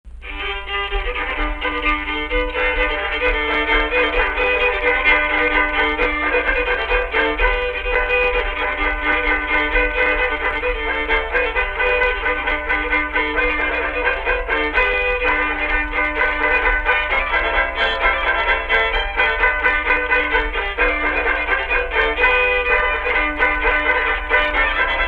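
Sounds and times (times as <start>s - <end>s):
fiddle playing held notes: 0.1s - 25.0s.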